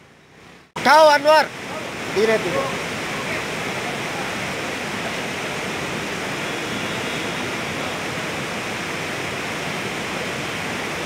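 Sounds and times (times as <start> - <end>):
white water rushing: 0.4 - 11.0.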